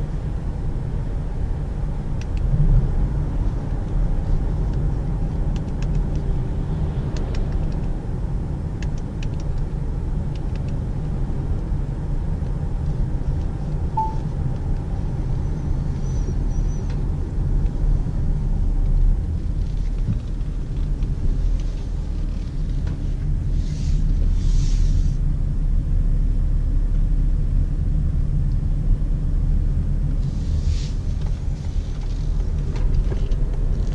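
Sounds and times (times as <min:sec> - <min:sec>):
car cabin road and engine rumble: 0:00.0 - 0:33.9.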